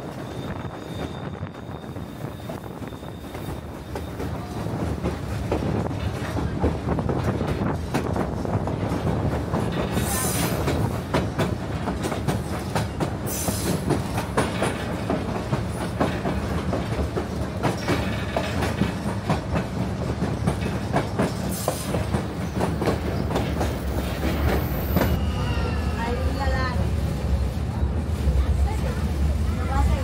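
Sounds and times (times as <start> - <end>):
train wheels clacking on rails: 0.0 - 25.2
train rumble: 0.0 - 30.0.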